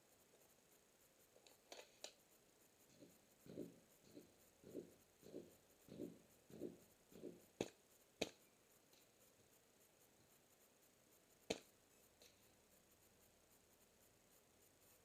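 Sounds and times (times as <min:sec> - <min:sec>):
soft evenly spaced thumps: 0:00.0 - 0:15.0.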